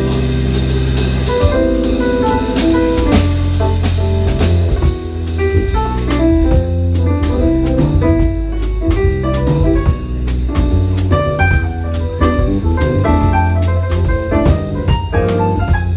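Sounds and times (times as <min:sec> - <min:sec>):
bass line: 0:00.0 - 0:15.9
drum kit groove with cymbals: 0:00.0 - 0:15.9
piano chords: 0:00.0 - 0:15.9.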